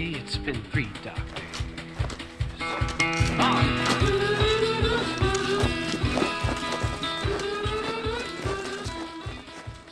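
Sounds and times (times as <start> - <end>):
song with steady drum beat: 0.6 - 9.9.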